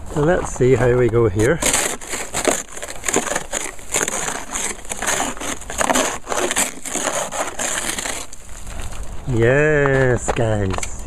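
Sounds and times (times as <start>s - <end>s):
brush scraping snow: 0.6s - 9.6s.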